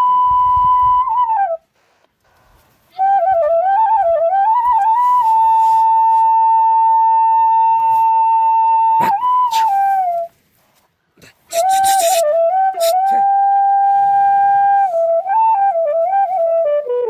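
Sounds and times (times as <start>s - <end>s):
solo flute melody: 0.0s - 1.7s, 2.8s - 10.4s, 11.5s - 17.0s.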